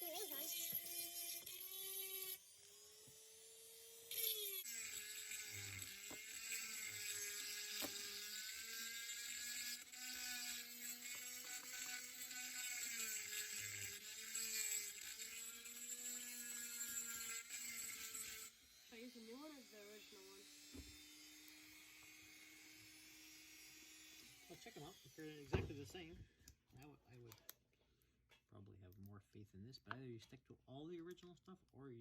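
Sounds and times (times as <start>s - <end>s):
small electric motor whining: 0.0s - 25.7s.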